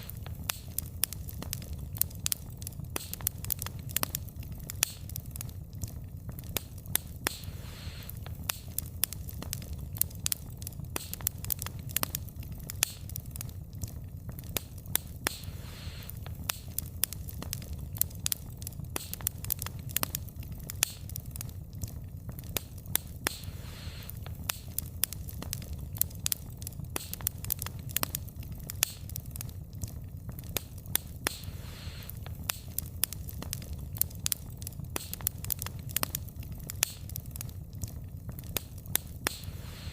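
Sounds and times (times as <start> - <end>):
low rumble of flame: 0.0 - 39.9
soft hiss: 0.0 - 39.9
wood fire crackling: 0.0 - 39.9.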